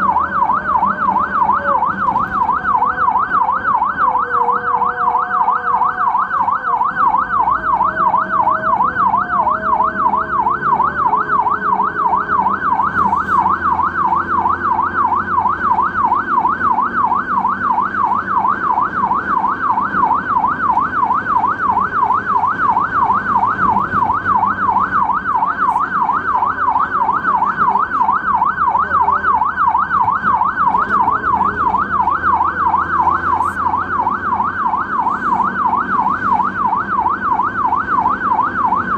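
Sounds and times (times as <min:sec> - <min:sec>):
ambulance siren warbling: 0:00.0 - 0:38.9.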